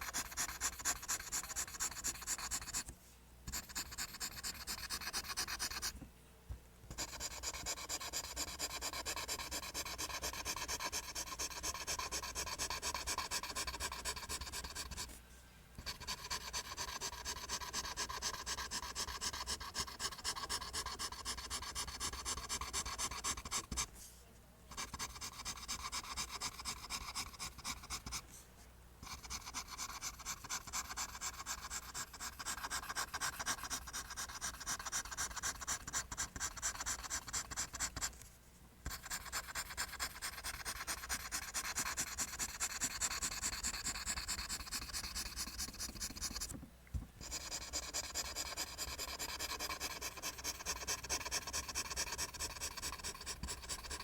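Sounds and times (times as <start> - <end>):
pencil scratching on paper: 0.0 - 2.9, 3.5 - 5.9, 6.9 - 15.2, 15.8 - 23.9, 24.7 - 28.2, 29.0 - 38.2, 38.8 - 46.6, 47.2 - 54.0.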